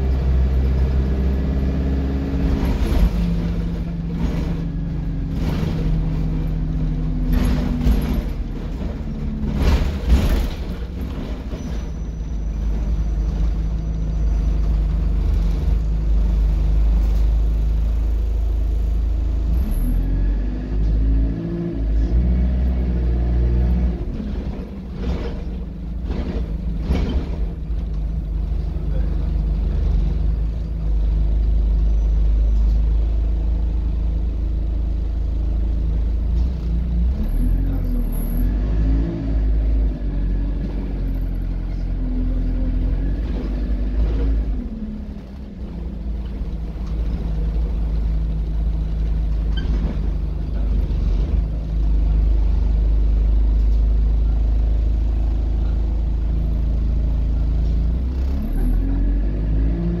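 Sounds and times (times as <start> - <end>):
bus engine rumble: 0.0 - 60.0.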